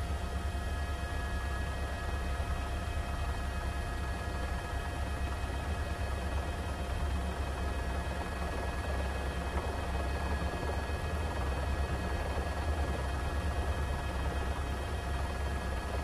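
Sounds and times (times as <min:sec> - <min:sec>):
helicopter engine and rotor rumble: 0:00.0 - 0:16.0.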